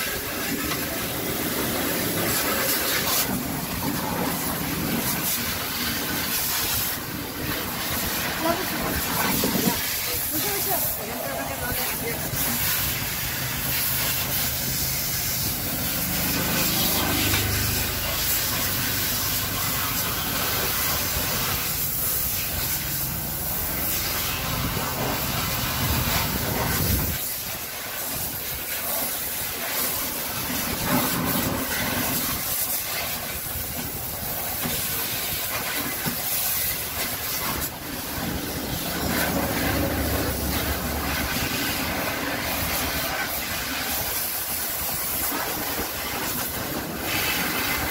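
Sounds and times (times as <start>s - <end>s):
hose water spray hissing: 0.0s - 47.9s.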